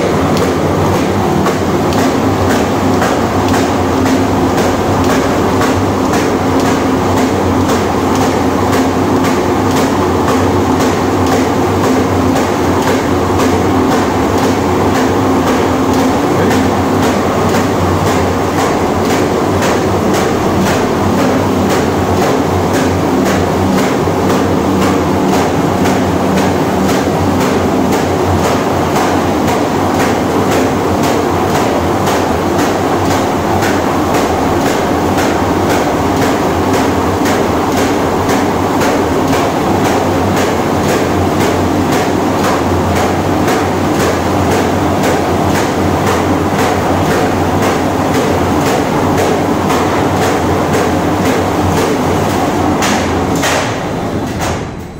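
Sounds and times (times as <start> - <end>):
machine clattering with regular knocks: 0.0 - 54.9.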